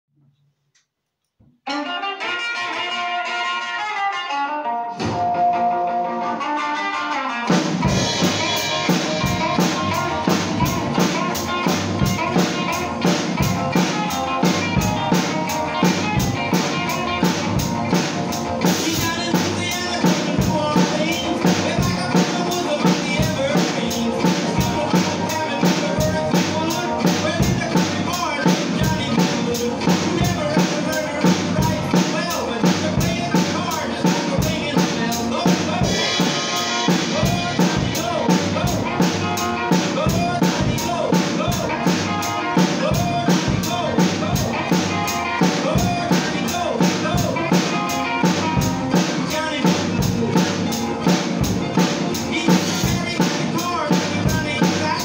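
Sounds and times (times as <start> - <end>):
rock and roll record: 1.4 - 55.0
drum kit rock beat: 1.7 - 55.0.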